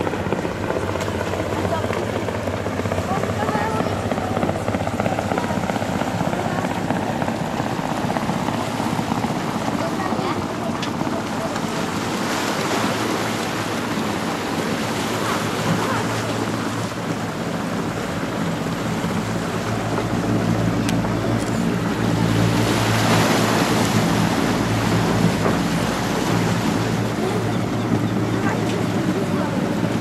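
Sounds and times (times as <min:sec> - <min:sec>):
helicopter rotor and turbine drone: 0:00.0 - 0:30.0.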